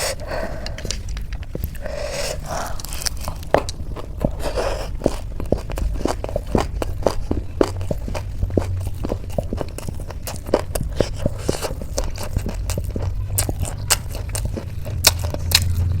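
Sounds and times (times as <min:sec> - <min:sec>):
crunching and chewing snacks: 0:00.0 - 0:16.0.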